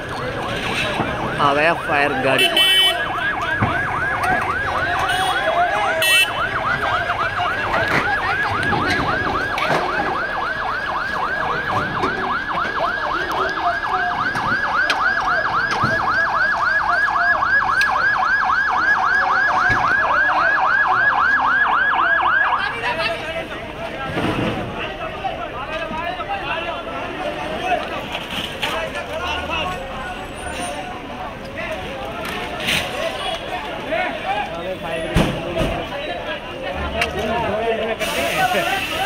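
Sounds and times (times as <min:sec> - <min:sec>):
fire engine siren yelping: 0:00.0 - 0:39.0.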